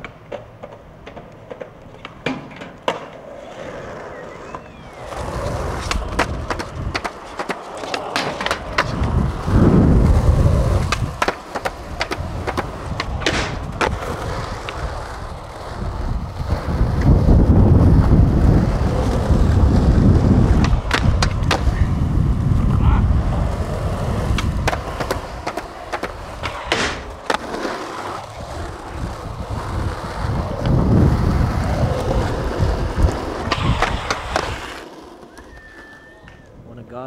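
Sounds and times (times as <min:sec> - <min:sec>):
skateboard popping and landing: 0:00.0 - 0:36.5
skateboard trucks grinding ledge: 0:00.0 - 0:36.5
skateboard wheels rolling on asphalt: 0:00.0 - 0:37.0.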